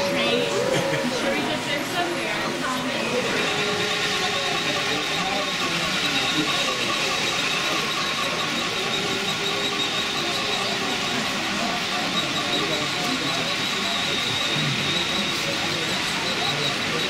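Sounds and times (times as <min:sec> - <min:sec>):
model trains running on track: 0:00.0 - 0:17.0.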